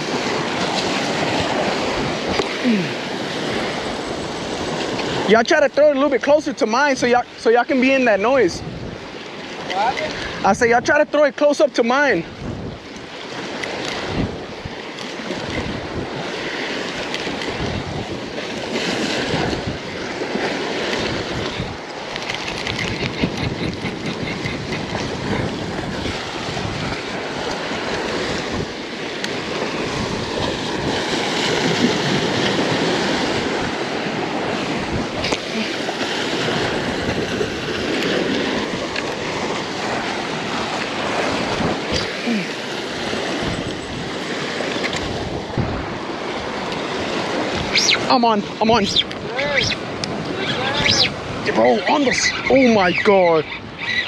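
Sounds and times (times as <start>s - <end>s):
wind buffeting microphone: 0.0s - 11.1s, 12.1s - 54.0s
waves splashing against rocks: 0.0s - 54.0s.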